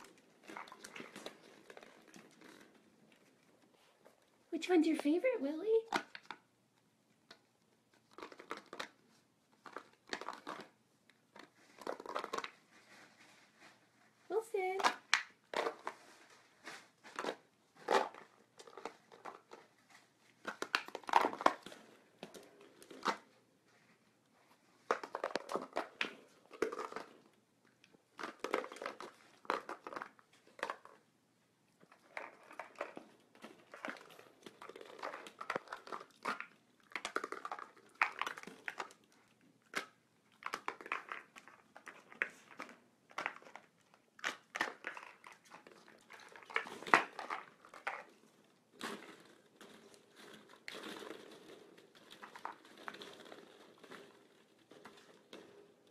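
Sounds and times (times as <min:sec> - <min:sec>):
plastic balls clattering on wood floor: 0:00.0 - 0:04.7, 0:05.7 - 0:06.6, 0:07.2 - 0:55.9.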